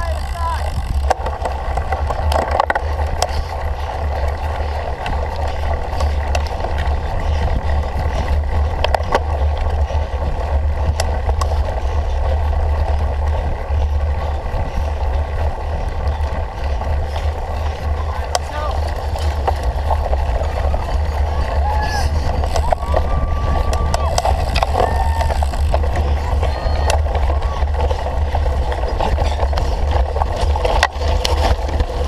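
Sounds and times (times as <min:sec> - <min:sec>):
bicycle tyre and drivetrain noise: 0:00.0 - 0:32.0
bike clicks and rattles: 0:00.0 - 0:32.0
wind rumble on microphone: 0:00.0 - 0:32.0.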